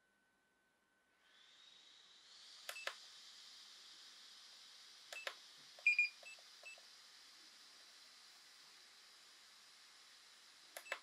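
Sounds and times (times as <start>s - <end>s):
cooling fan hiss: 1.2s - 11.0s.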